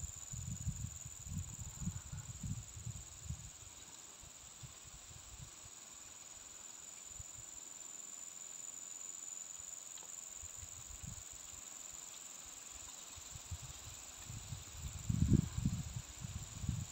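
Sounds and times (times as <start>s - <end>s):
insects droning: 0.0s - 16.9s.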